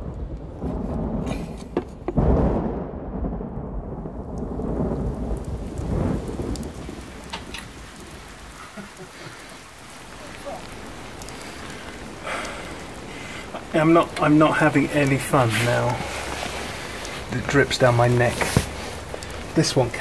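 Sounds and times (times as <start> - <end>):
steady rain falling: 0.0 - 20.0
thunder rumbling: 0.0 - 20.0.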